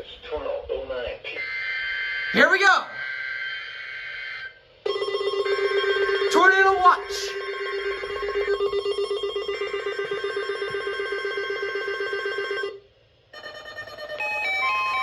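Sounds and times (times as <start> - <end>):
weather radio alarm trill: 1.4 - 15.0.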